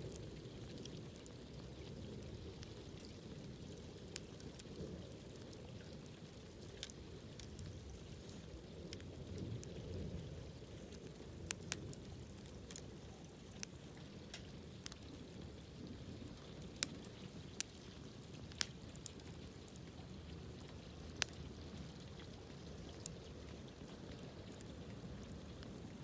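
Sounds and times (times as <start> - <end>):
campfire low rush: 0.0 - 26.0
fire crackles and pops: 0.0 - 26.0.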